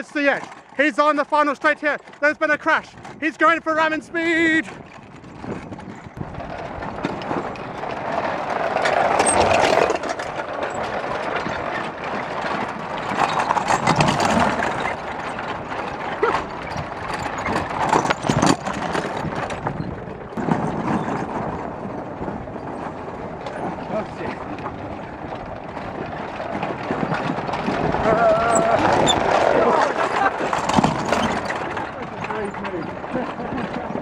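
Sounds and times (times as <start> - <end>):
go-karts rolling: 0.0 - 34.0.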